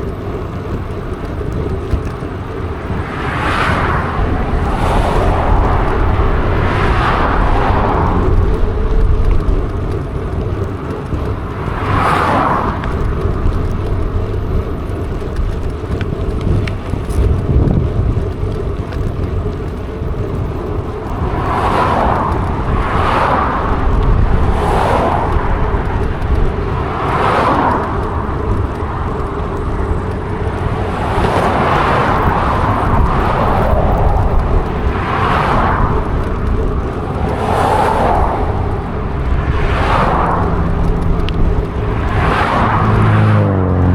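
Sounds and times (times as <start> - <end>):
cars passing: 0.0 - 43.9
wind buffeting microphone: 0.0 - 43.9.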